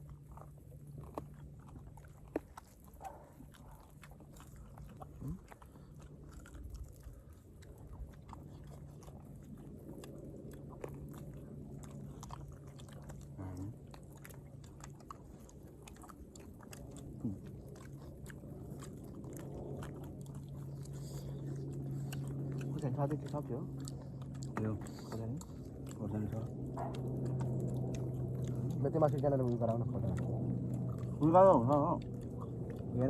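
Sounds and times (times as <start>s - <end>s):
low hum: 0.0s - 33.0s
person chewing meat: 0.0s - 33.0s.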